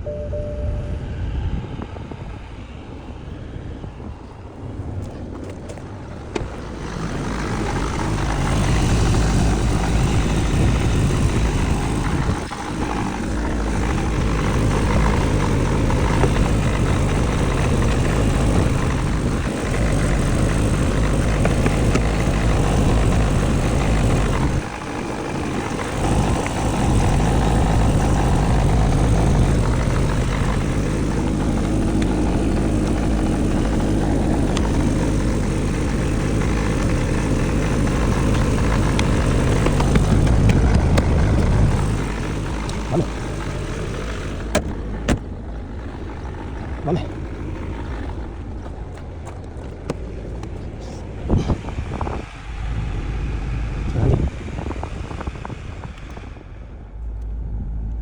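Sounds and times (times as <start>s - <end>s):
car heater fan blowing air: 0.0s - 58.0s.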